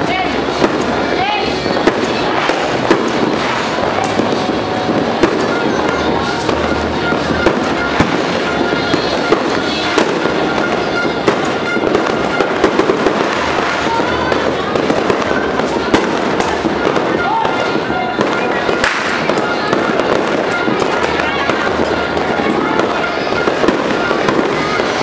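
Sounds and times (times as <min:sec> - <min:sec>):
firecrackers rattling: 0:00.0 - 0:25.0
sharp firecracker cracks: 0:01.7 - 0:25.0.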